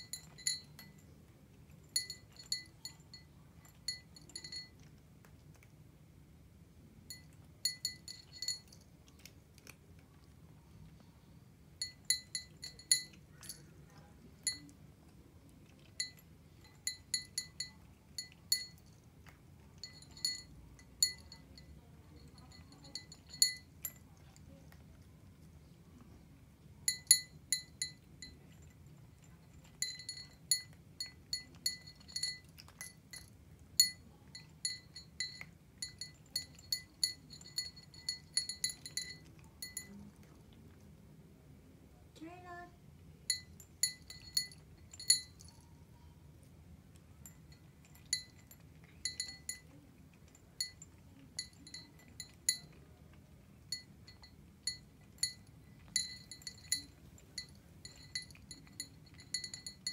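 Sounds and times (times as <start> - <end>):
kibble clinking in glass bowl: 0.0 - 5.0, 7.1 - 9.8, 11.8 - 14.8, 15.6 - 24.8, 26.8 - 40.3, 43.3 - 45.7, 47.0 - 59.9
cat eating dry food: 0.0 - 42.1, 42.7 - 59.9.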